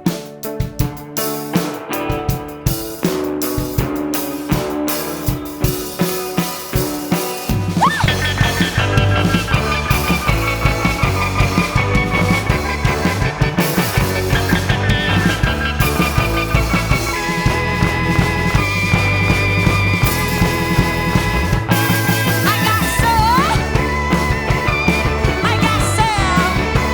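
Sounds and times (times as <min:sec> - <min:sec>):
rock band playing: 0:00.0 - 0:26.9.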